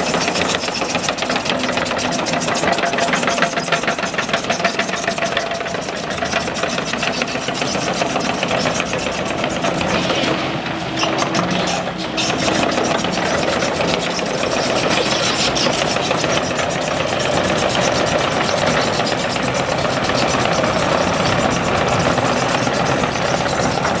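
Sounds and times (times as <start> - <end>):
machine clattering: 0.0 - 24.0.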